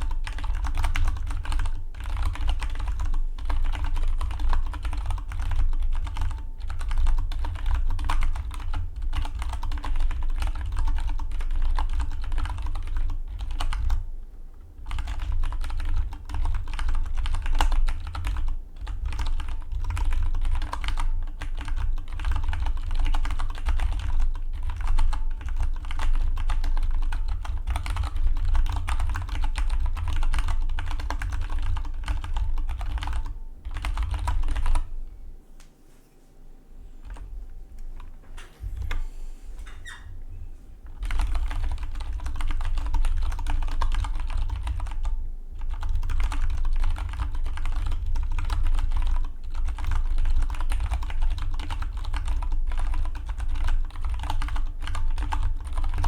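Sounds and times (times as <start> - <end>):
fast mechanical keyboard typing: 0.0 - 14.0, 14.8 - 34.9, 40.9 - 56.0.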